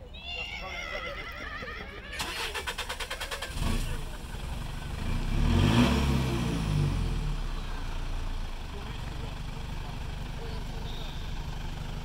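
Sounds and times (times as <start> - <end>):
truck engine starting and revving: 2.1 - 12.0.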